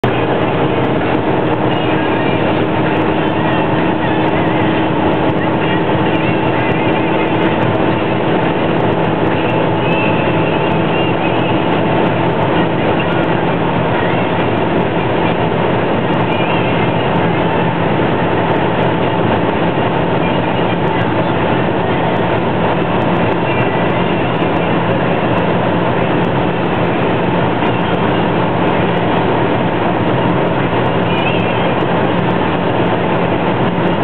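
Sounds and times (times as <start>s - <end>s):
car engine at high revs: 0.0s - 34.0s
wind and road roar: 0.0s - 34.0s.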